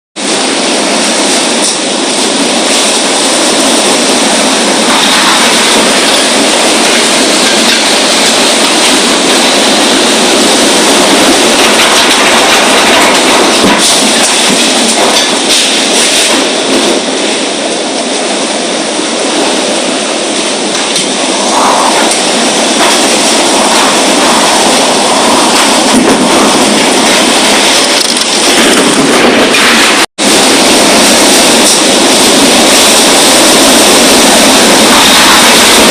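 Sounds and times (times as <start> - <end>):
strong storm wind: 0.2 - 35.9.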